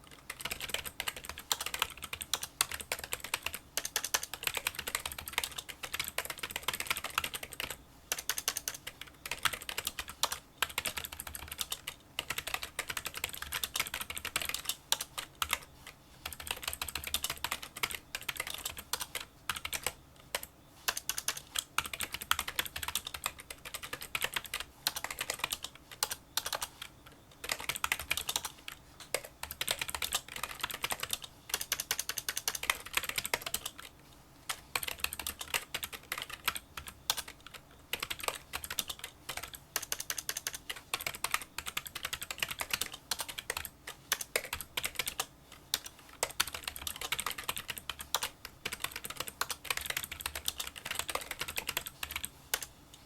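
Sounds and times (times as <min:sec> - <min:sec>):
keyboard typing clicks: 0:00.1 - 0:33.9, 0:34.5 - 0:52.7.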